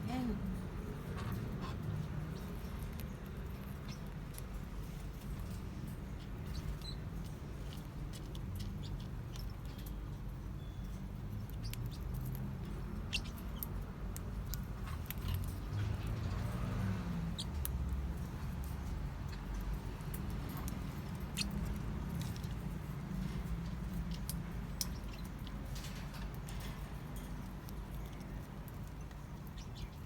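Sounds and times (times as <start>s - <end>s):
parrotlets squeaking and clicking: 0.1s - 30.0s.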